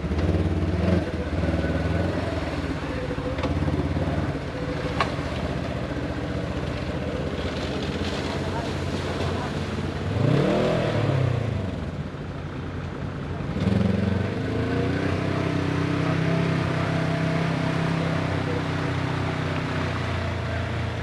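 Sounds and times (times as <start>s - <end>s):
dirt bike engine revving: 0.0s - 5.9s, 6.6s - 11.9s, 13.6s - 19.3s.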